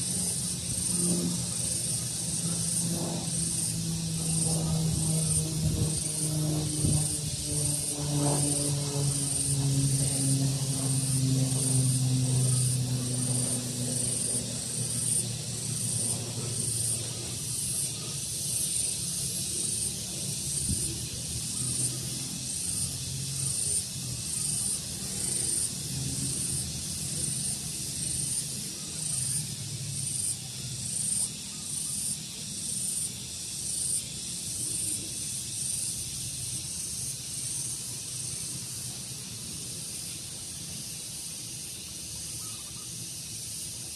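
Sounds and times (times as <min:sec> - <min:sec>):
low drone: 0:00.0 - 0:42.8
insects chirping: 0:00.0 - 0:43.9.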